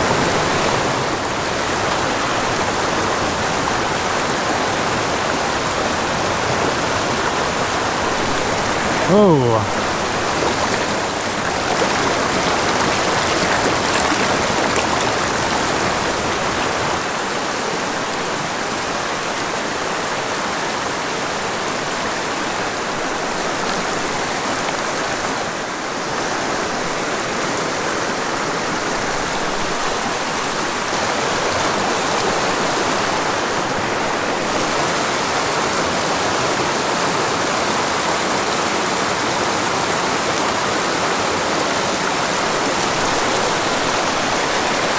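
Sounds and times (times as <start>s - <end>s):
creek rushing over rocks: 0.0s - 44.9s.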